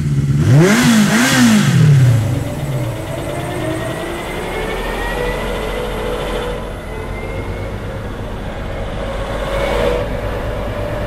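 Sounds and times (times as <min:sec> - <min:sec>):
engine revving: 0:00.0 - 0:11.0
faint whine: 0:01.9 - 0:11.0.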